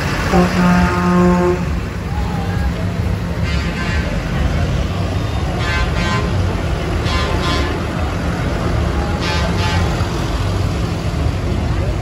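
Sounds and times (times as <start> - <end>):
tractor diesel engines rumbling: 0.0 - 12.0.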